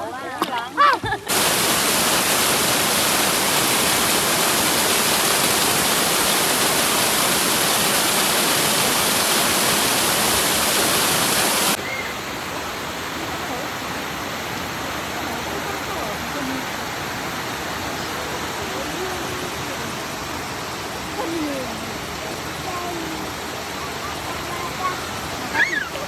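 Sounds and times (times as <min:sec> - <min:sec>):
fast-flowing water rushing: 0:00.0 - 0:26.0.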